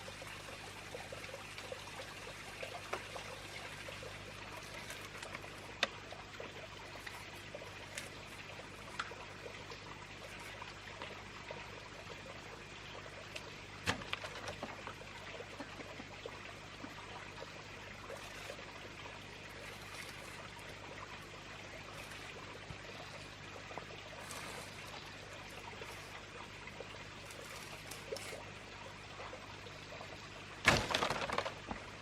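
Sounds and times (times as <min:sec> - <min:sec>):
water trickling and pouring: 0:00.0 - 0:32.0.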